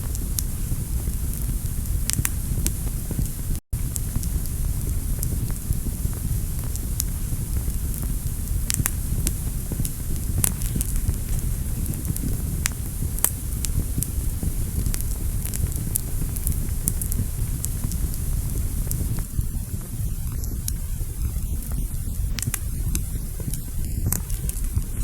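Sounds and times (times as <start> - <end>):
fire crackling and popping: 0.0 - 25.0
flames roaring: 0.0 - 25.0.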